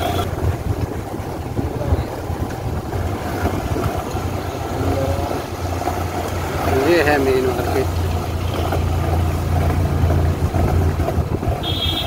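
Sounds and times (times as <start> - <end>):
motorcycle engine droning: 0.0 - 12.0
wind buffeting microphone: 0.0 - 12.0.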